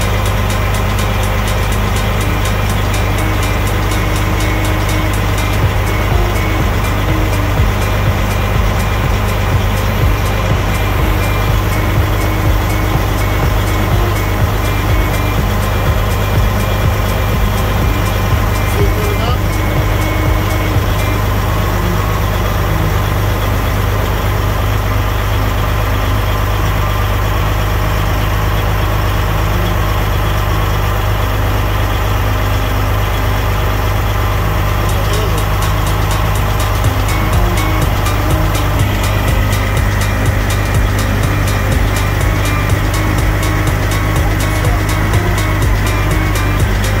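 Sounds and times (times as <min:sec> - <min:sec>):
air system filling: 0:00.0 - 0:47.0
diesel engine idling: 0:00.0 - 0:47.0.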